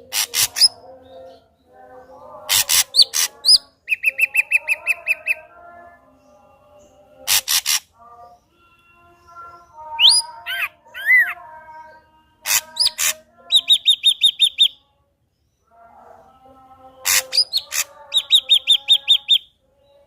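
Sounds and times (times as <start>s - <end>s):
bird singing varied song: 0.0s - 20.0s.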